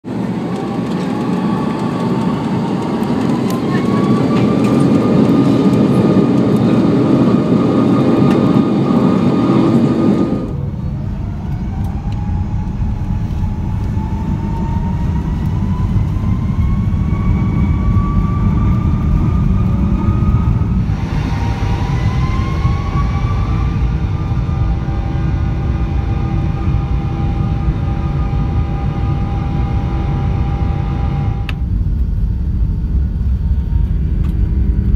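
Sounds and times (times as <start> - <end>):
jet engines spooling up: 0.0 - 34.9
rising engine whine: 0.0 - 34.9.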